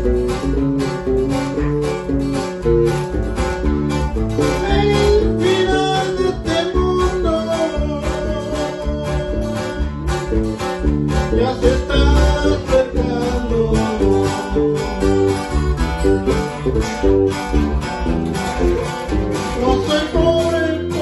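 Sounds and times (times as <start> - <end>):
acoustic guitar strumming: 0.0 - 21.0
electric bass playing: 0.0 - 21.0.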